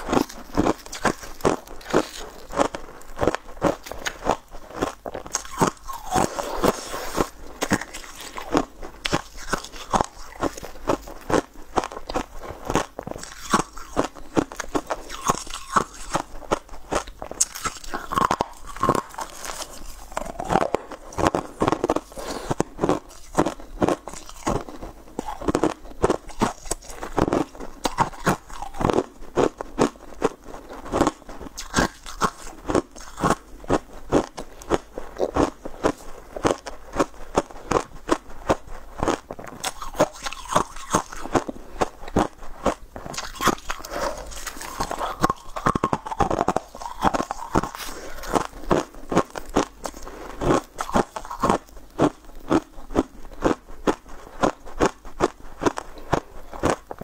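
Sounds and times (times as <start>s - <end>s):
crunching and chewing hard treats: 0.0s - 57.0s.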